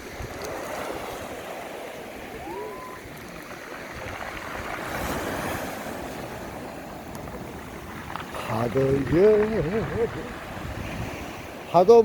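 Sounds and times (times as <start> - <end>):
waves breaking on pebble beach: 0.0 - 12.0.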